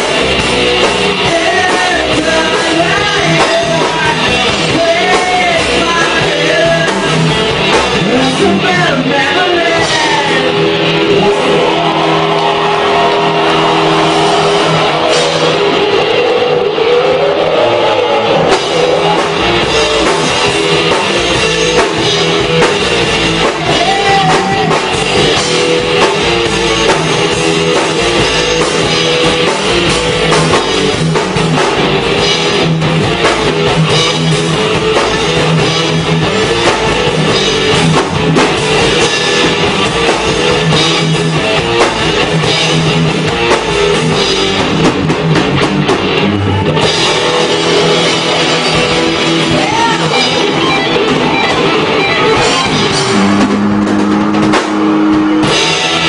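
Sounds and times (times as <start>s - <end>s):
drum kit: 0.0s - 56.0s
guitar: 0.0s - 56.0s
rock band playing: 0.0s - 56.0s.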